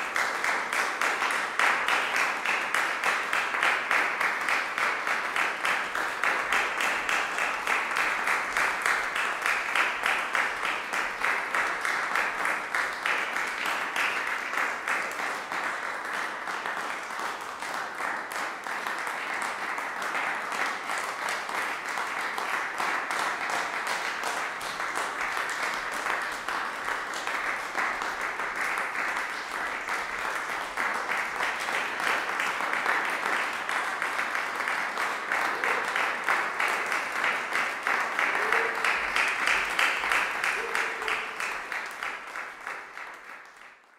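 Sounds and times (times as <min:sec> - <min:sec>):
audience applauding: 0:00.0 - 0:43.9.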